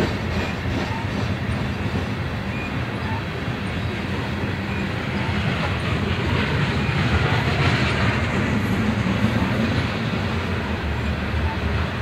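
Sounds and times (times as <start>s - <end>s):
freight train wheels on rails: 0.0s - 12.0s.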